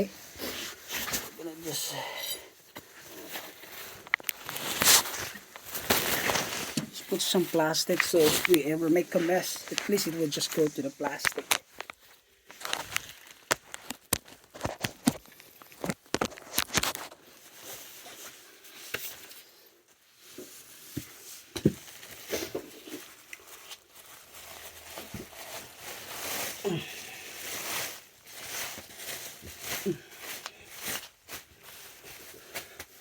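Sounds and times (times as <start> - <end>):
plastic sheeting crinkling and tearing: 2.9 - 33.0.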